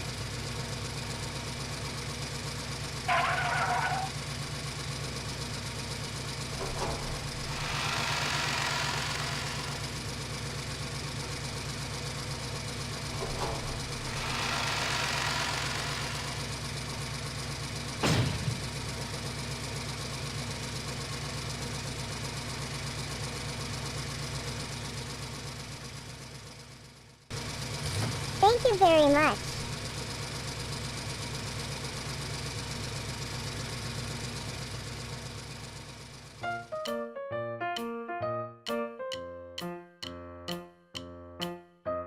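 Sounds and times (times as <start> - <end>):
small engine running: 0.0 - 36.4.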